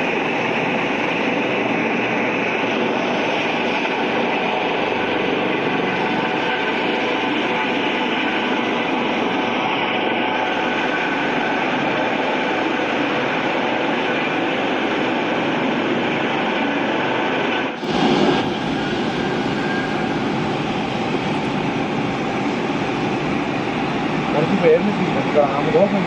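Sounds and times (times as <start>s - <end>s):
helicopter engine and rotor noise: 0.0s - 26.0s.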